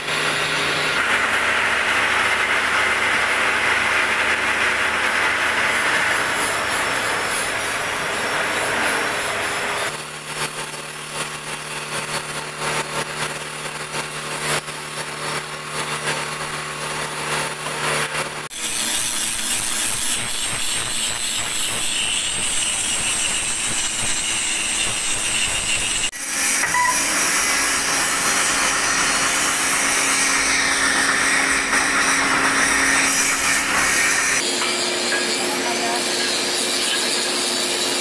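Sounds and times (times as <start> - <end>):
angle grinder grinding steel: 0.0 - 38.0.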